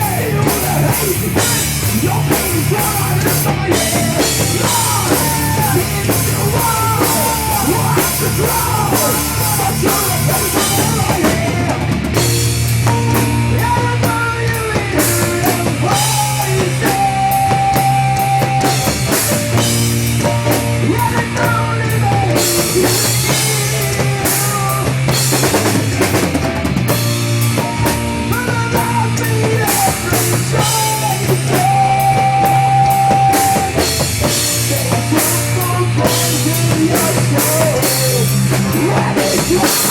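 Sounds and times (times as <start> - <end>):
bass line: 0.0 - 39.9
electric guitar lead bending: 0.0 - 39.9
pounding drum kit: 0.0 - 39.9
rock band playing: 0.0 - 39.9.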